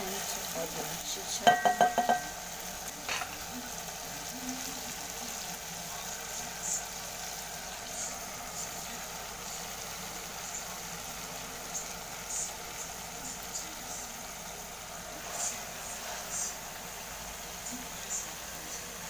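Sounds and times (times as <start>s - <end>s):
stew sizzling in a pot: 0.0s - 19.0s.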